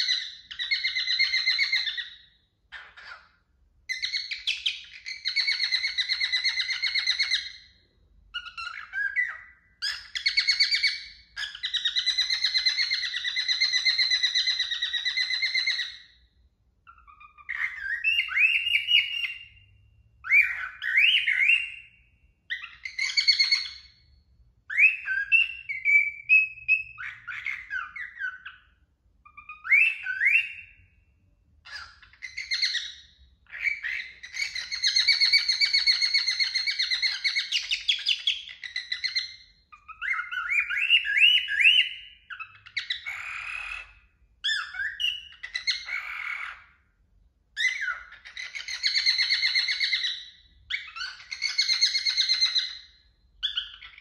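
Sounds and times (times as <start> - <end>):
cockatiel whistling and warbling: 0.0 - 7.7, 8.3 - 16.2, 16.8 - 46.9, 47.5 - 54.0.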